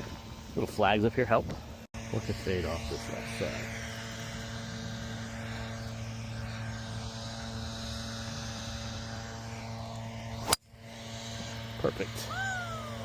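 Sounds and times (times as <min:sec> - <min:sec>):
faint steady tones: 0:00.0 - 0:13.0
steady low hum: 0:00.0 - 0:13.0.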